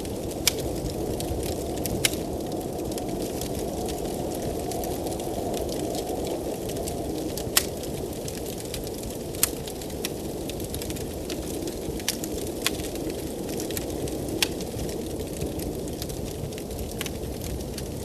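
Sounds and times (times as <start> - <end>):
blizzard wind: 0.0 - 18.0
wood fire crackling and popping: 0.0 - 18.0.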